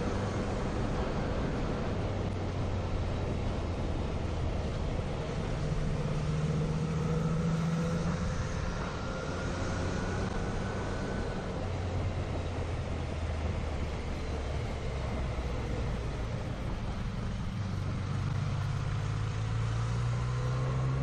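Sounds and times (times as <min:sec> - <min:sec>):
wind and road rush: 0:00.0 - 0:21.0.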